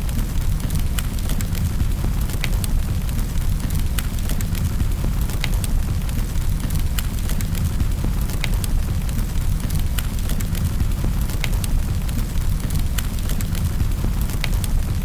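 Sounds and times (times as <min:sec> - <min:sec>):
fire crackling and popping: 0:00.0 - 0:15.0
low rumble of burning: 0:00.0 - 0:15.0.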